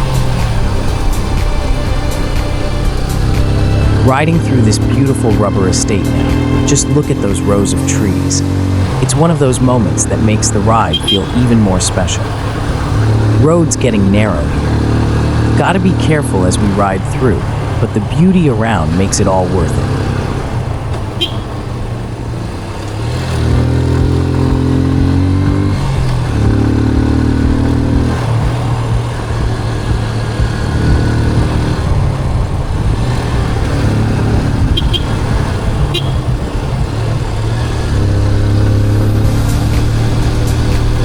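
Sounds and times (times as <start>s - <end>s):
motorcycle engine running: 0.0s - 41.0s
wind and road noise: 0.0s - 41.0s.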